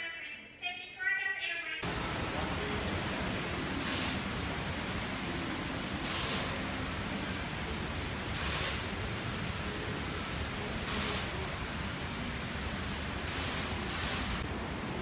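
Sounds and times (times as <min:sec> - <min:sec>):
hiss of falling water: 0:01.8 - 0:14.5.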